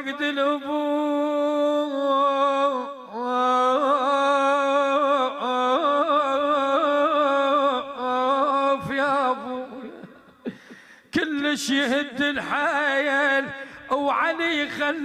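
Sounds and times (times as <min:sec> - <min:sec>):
man chanting a lament: 0:00.0 - 0:10.5, 0:11.1 - 0:15.0.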